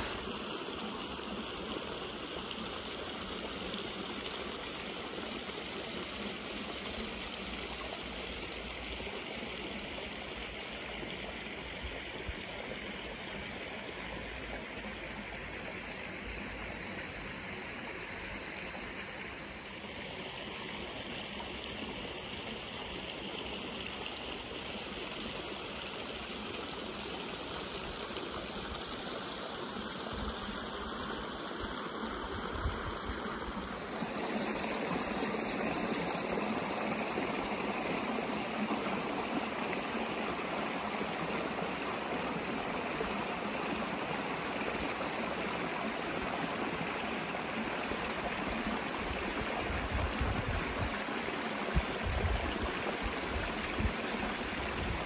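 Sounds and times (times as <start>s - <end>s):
stream flowing over stones: 0.0s - 55.0s.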